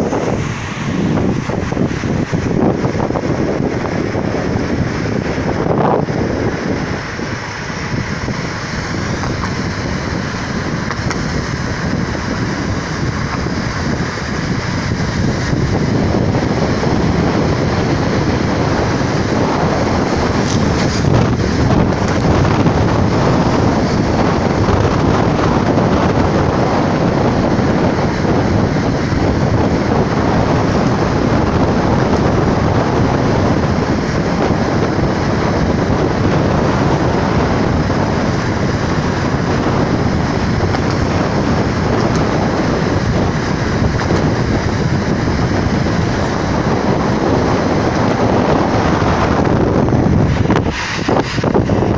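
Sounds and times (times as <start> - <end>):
car road and tyre noise: 0.0 - 51.9
wind rushing over microphone: 0.0 - 51.9.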